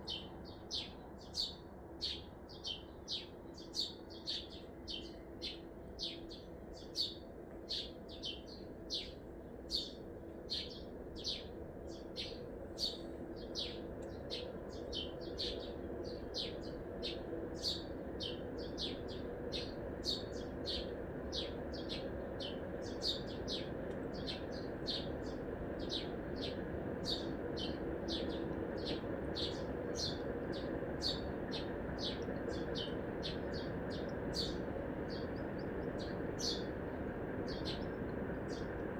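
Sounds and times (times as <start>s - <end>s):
city traffic hum: 0.0s - 38.9s.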